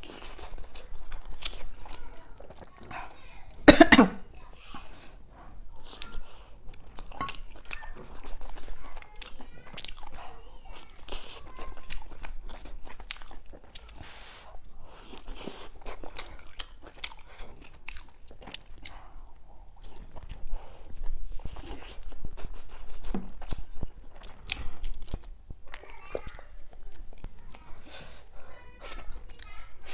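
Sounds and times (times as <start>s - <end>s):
person chewing food: 0.0s - 3.7s, 4.6s - 29.9s.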